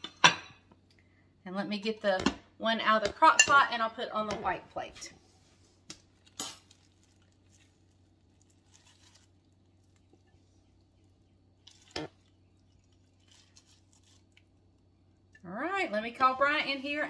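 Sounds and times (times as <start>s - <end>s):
faint low hum: 0.5s - 17.0s.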